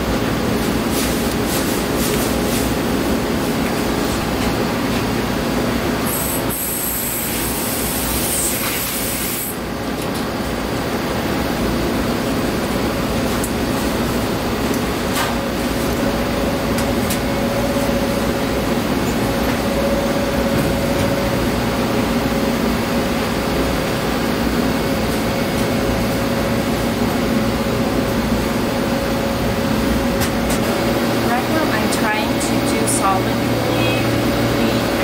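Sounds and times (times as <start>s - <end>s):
ventilation air rushing: 0.0s - 35.0s.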